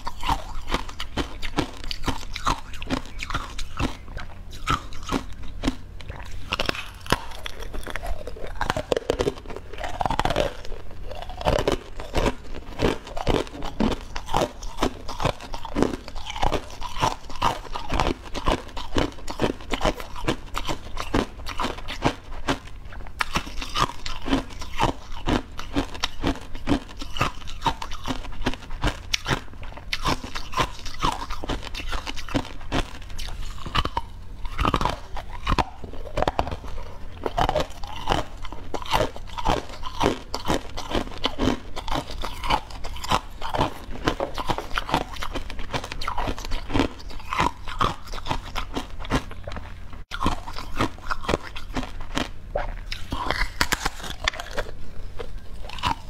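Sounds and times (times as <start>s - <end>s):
person chewing crunchy pastry: 0.0s - 56.0s.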